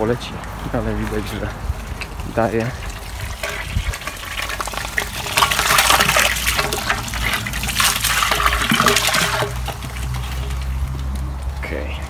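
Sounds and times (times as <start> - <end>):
water pouring into a barrel: 1.4 - 11.6.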